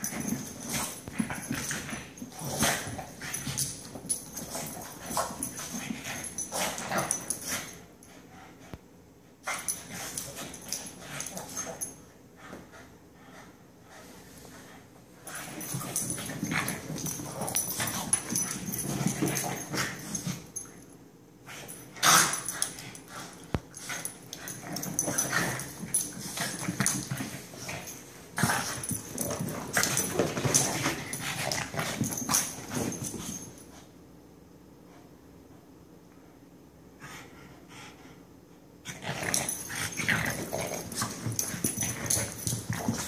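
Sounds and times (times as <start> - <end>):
dogs play-fighting: 0.0 - 34.0, 37.0 - 43.0.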